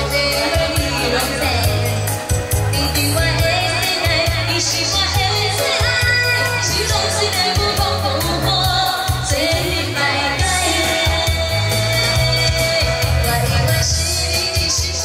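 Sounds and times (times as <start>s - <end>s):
amplified pop backing music: 0.0s - 15.0s
woman singing into microphone: 0.0s - 15.0s.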